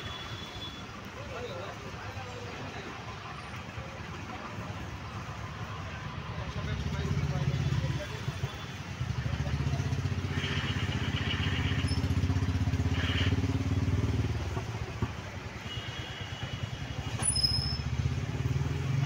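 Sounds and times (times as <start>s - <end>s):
motorcycle engines running: 1.0s - 15.5s, 17.1s - 19.0s.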